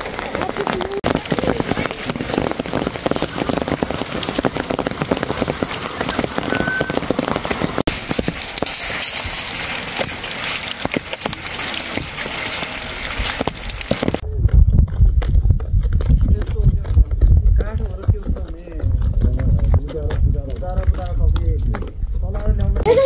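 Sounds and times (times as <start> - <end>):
rain and hail pattering: 0.0 - 15.0, 15.7 - 23.0.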